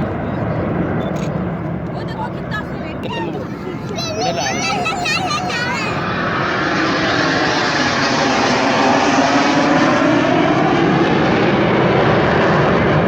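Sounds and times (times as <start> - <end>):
airplane engine roar: 0.0 - 13.0.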